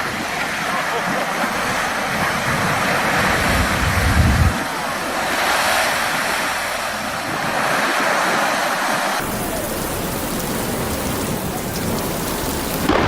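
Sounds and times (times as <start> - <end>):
water rushing: 0.0 - 13.0
wind buffeting microphone: 0.0 - 13.0.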